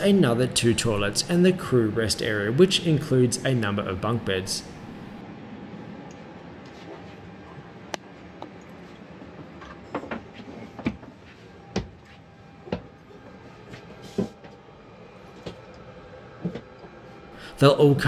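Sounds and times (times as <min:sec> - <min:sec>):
low cabin hum: 0:00.0 - 0:18.0.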